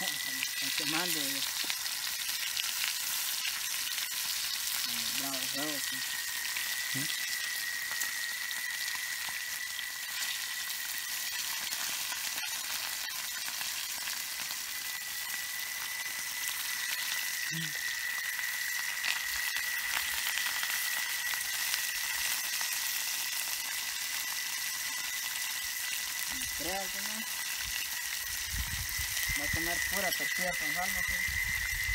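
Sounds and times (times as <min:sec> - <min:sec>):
fish sizzling in oil: 0:00.0 - 0:31.9.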